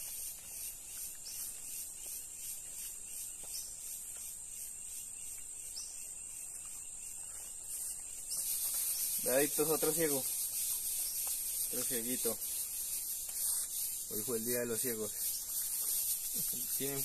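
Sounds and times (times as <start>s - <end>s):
insect chorus chirring: 0.0s - 17.0s.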